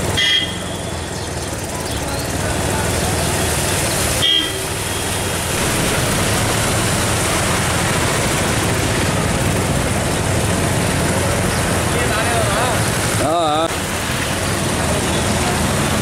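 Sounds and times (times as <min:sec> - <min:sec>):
motorcycles running through water: 0:00.0 - 0:16.0.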